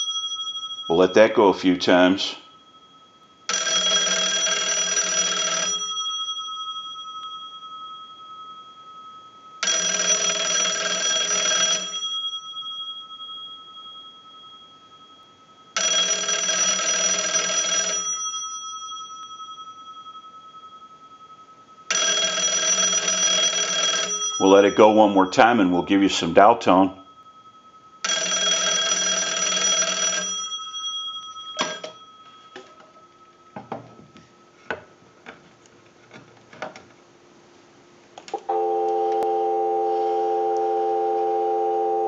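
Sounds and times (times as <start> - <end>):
telephone bell ringing: 0.0 - 1.1, 2.4 - 25.9, 27.0 - 33.9, 38.4 - 42.0.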